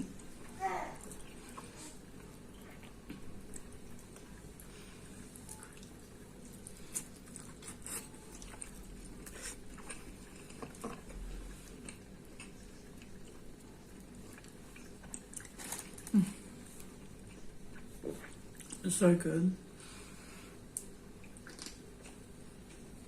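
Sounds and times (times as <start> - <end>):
person chewing food: 0.0 - 18.8, 20.1 - 23.0.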